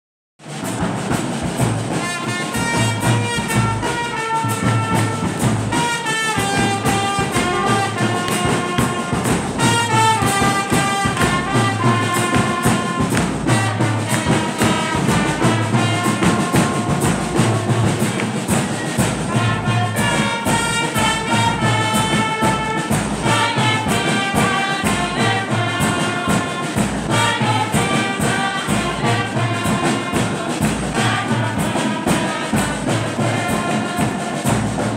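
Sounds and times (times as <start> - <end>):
brass band playing: 0.4 - 34.9.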